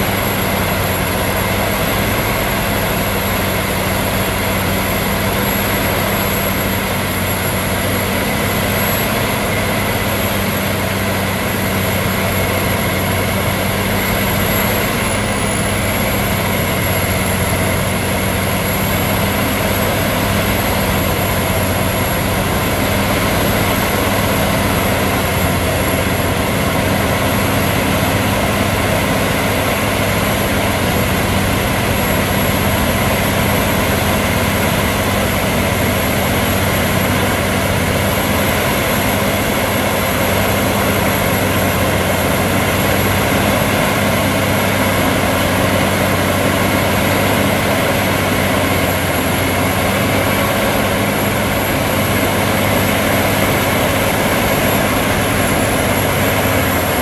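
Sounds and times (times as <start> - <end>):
tiller rotor churning soil: 0.0 - 57.0
tractor diesel engine at high revs: 0.0 - 57.0.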